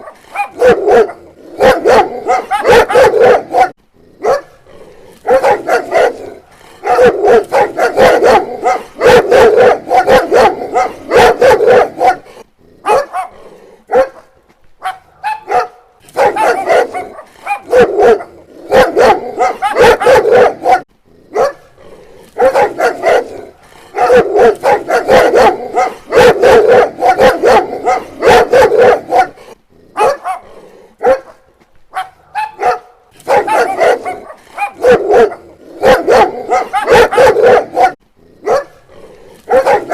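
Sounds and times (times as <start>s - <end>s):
dog barking rapidly: 0.0s - 4.6s, 5.2s - 21.7s, 22.4s - 38.8s, 39.5s - 39.9s.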